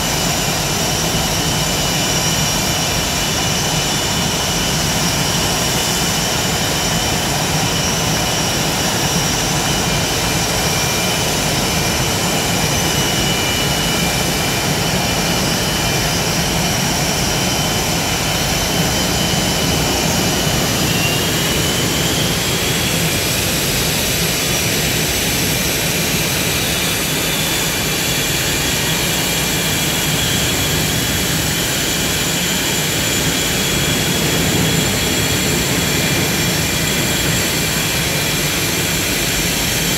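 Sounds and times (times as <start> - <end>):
jet engines roaring and whining: 0.0 - 39.9.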